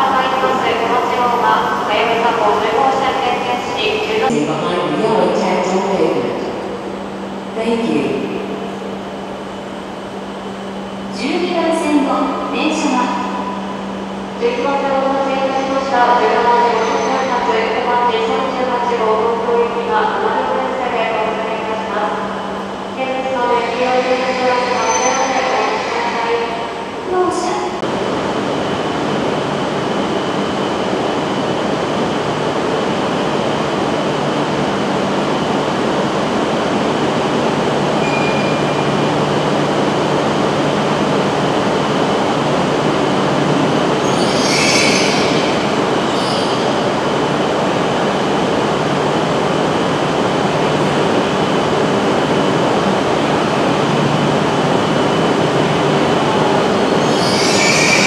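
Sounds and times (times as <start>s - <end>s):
train rumble and hum: 0.0s - 58.0s.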